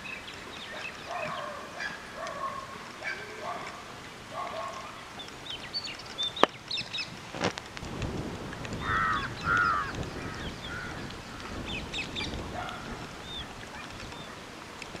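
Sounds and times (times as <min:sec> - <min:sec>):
birds calling: 0:00.0 - 0:07.3, 0:08.6 - 0:14.5.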